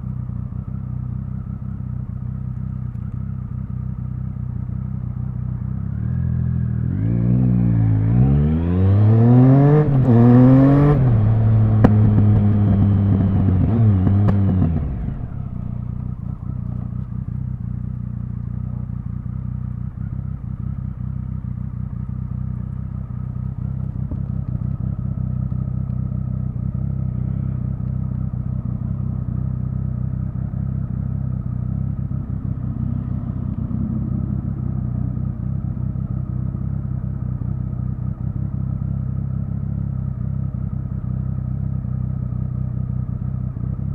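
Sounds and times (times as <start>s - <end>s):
engine running at low revs: 0.0s - 43.9s
motorcycle engine accelerating: 0.0s - 43.9s.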